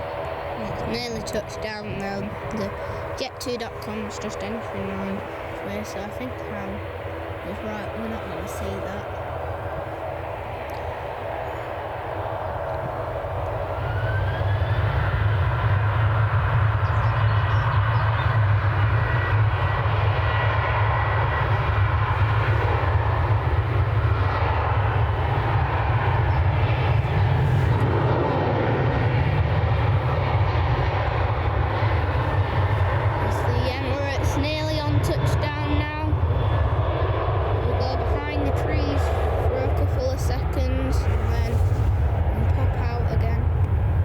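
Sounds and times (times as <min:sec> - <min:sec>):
jet engines rumbling: 0:00.0 - 0:44.0
rising whine: 0:00.0 - 0:44.0.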